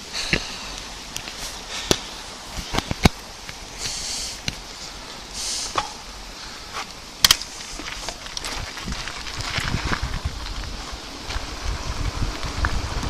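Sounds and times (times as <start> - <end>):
tyre noise on rough path: 0.0 - 13.0.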